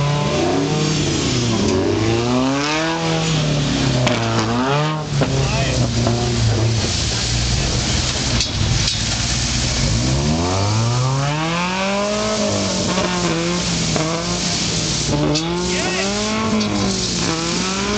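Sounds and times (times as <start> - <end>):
buggy engine revving: 0.0 - 17.9
constant hiss: 0.0 - 17.9.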